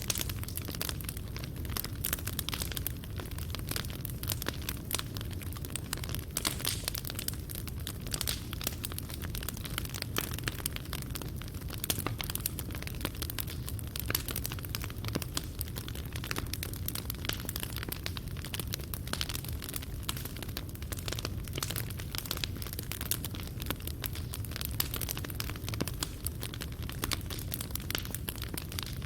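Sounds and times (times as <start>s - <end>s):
burning wood crackling: 0.0s - 29.0s
fire rumbling: 0.0s - 29.0s.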